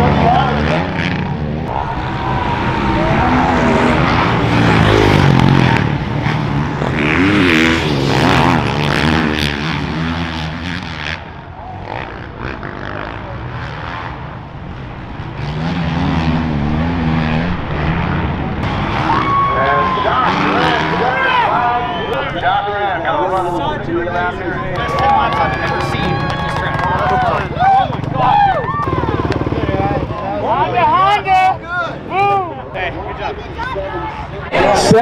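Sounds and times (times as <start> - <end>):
motorbike engines revving: 0.0 - 35.0.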